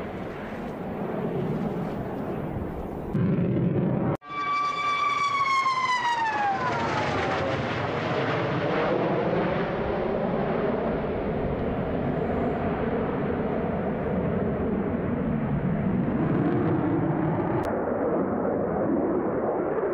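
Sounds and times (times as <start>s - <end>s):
jet engine whine: 0.0s - 19.9s
jet roar: 0.0s - 19.9s.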